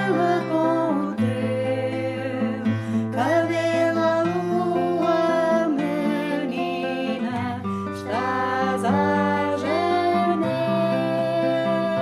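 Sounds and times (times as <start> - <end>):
acoustic guitar strummed: 0.0 - 12.0
voices singing: 0.0 - 12.0.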